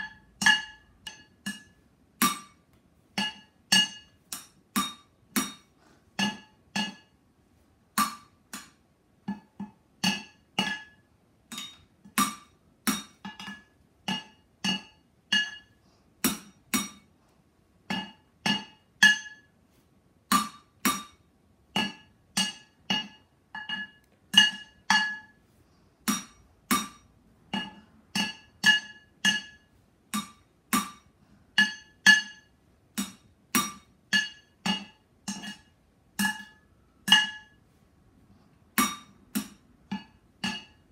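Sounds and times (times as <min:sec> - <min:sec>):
drumsticks hitting cooking pots: 0:00.0 - 0:07.2, 0:07.9 - 0:17.1, 0:17.9 - 0:19.5, 0:20.3 - 0:25.4, 0:26.0 - 0:37.6, 0:38.7 - 0:40.9.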